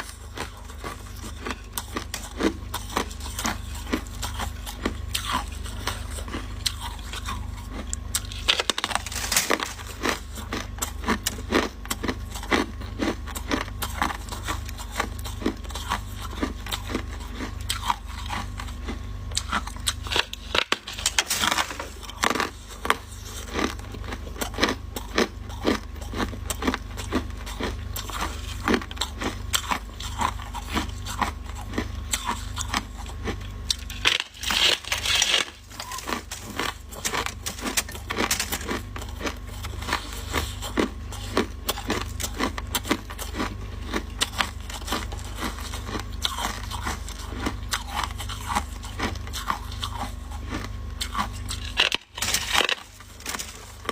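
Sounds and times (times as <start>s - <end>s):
chewing ice crunches: 0.0s - 53.9s
steady low hum: 0.0s - 53.9s.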